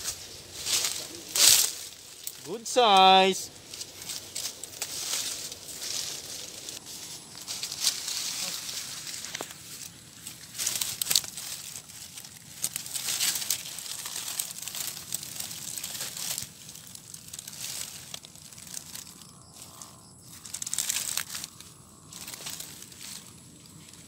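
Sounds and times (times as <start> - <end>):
dry grass and leaves rustling: 0.0 - 24.0.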